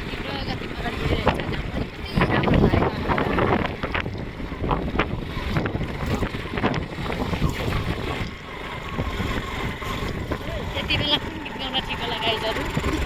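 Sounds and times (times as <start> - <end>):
motorcycle riding: 0.0 - 13.0
wind buffeting microphone: 0.0 - 13.0.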